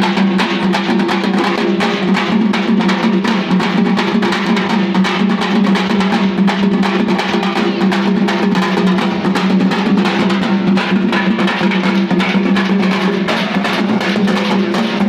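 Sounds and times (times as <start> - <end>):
fast hand drumming: 0.0 - 15.0.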